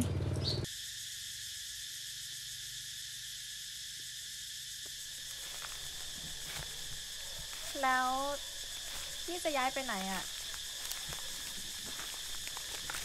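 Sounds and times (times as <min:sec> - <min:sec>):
insect chorus droning: 0:00.6 - 0:13.0.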